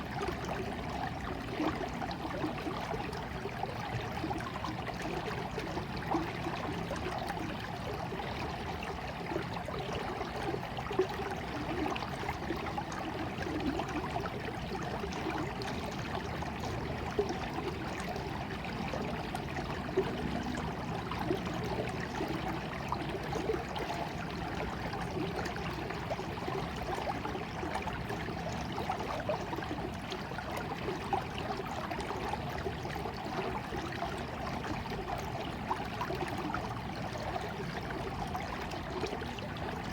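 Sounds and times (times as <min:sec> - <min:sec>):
stream water flowing: 0:00.0 - 0:39.9
water splashes: 0:00.0 - 0:39.9.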